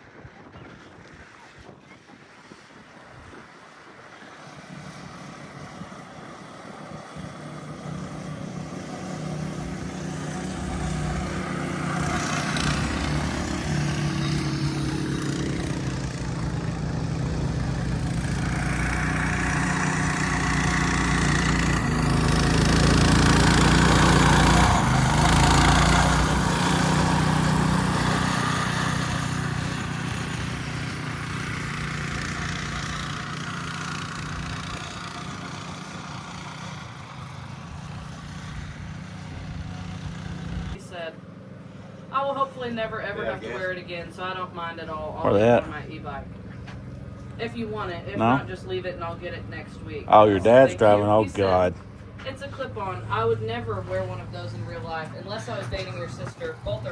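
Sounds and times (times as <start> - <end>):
small petrol engine passing: 3.6 - 56.9.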